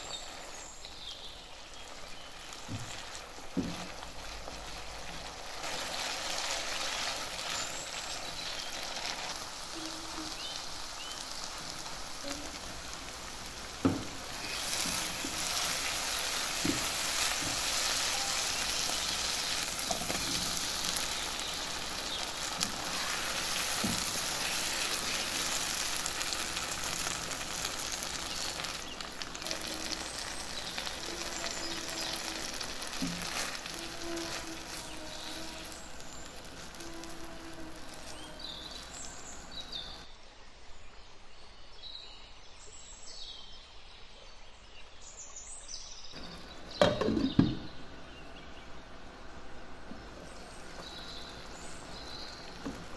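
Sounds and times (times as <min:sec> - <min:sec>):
spatula stirring in a pan: 0:00.0 - 0:40.0, 0:49.9 - 0:52.9
food sizzling in hot oil: 0:00.0 - 0:40.1, 0:46.2 - 0:48.0, 0:48.8 - 0:52.9.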